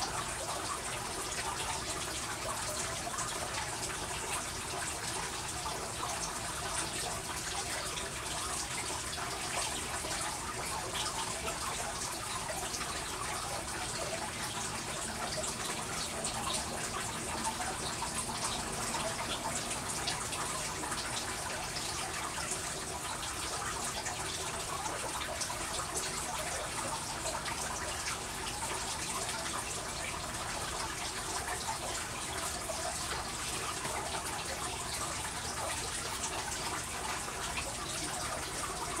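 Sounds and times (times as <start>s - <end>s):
water trickling and dripping: 0.0s - 39.0s.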